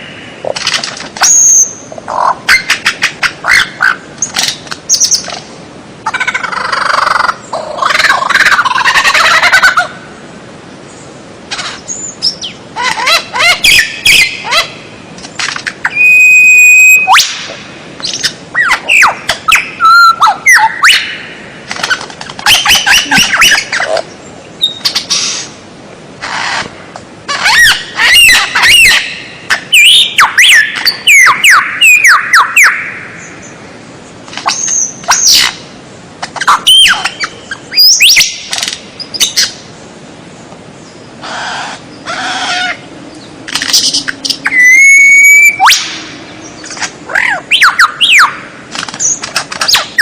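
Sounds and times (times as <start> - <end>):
songbird singing: 0.0 - 25.6, 26.2 - 50.0.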